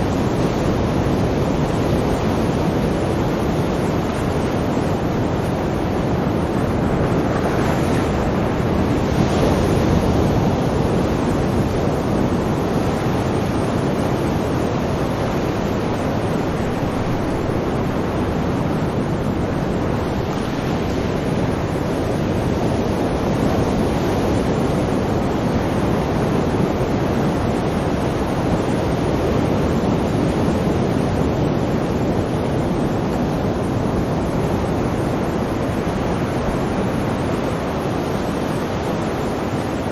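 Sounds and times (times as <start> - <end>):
surf washing in: 0.0 - 39.9.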